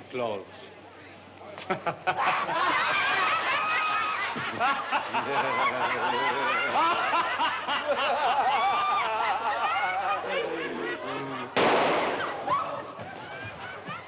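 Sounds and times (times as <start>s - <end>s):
group of people laughing: 1.6s - 14.0s.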